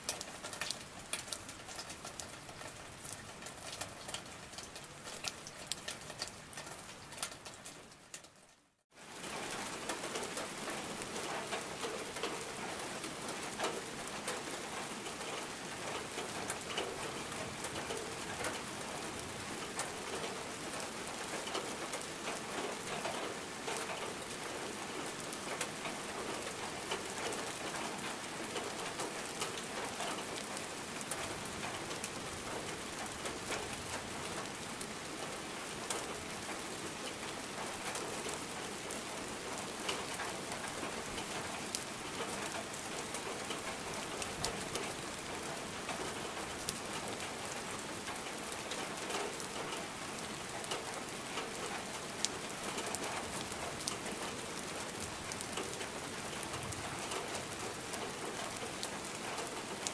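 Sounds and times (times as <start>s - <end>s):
rain hissing on water: 0.0s - 59.9s.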